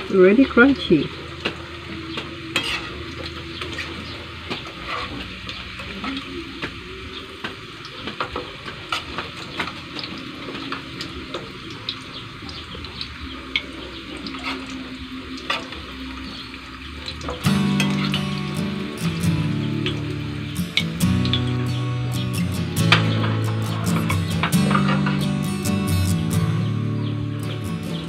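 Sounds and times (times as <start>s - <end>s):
slices sizzling in oil: 0.0s - 26.4s.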